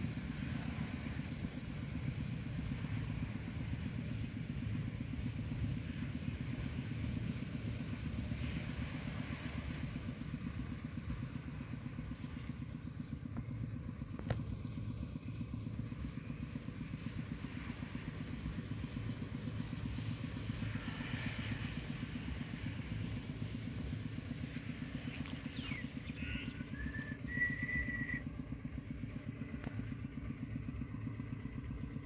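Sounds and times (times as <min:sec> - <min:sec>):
faint high-pitched pulsing trill: 0:00.0 - 0:32.0
steady low rumble: 0:00.0 - 0:32.0.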